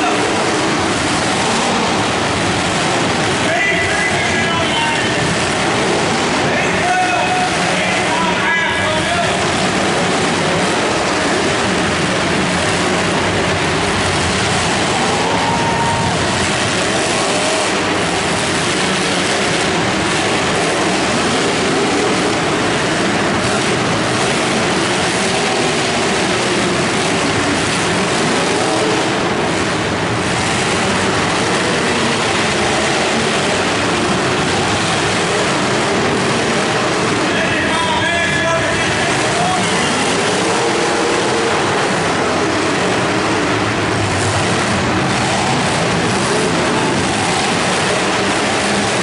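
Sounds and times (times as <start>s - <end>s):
many car engines revving: 0.0s - 49.0s.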